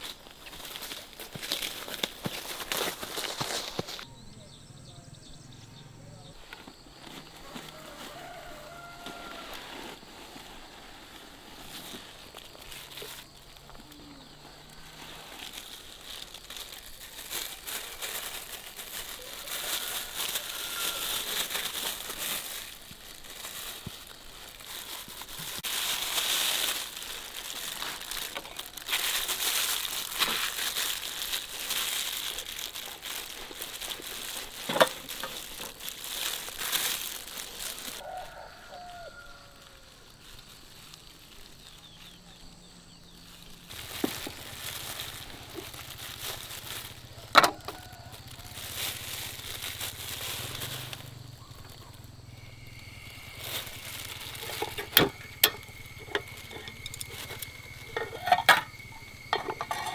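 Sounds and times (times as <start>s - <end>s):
crinkling and rustling: 0.0s - 4.1s, 6.4s - 59.9s.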